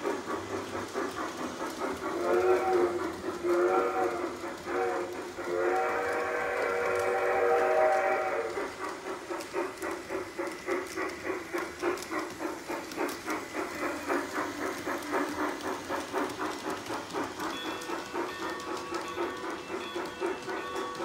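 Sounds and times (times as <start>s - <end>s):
model steam locomotive chuffing: 0.0s - 21.0s.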